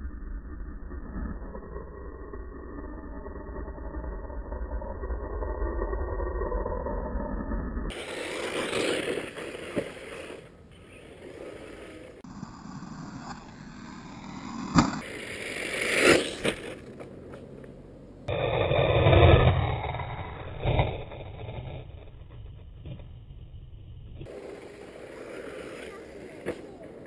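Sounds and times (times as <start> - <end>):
rc car tyres scraping over dirt: 4.7 - 27.0.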